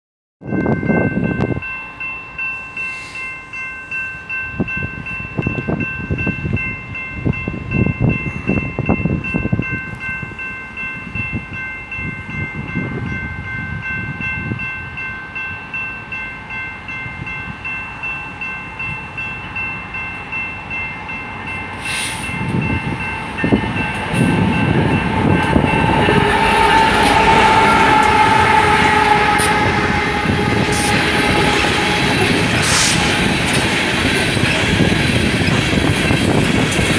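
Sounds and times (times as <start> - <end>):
crossing warning bell ringing: 0.4 - 36.9
freight train rolling past: 0.4 - 36.9.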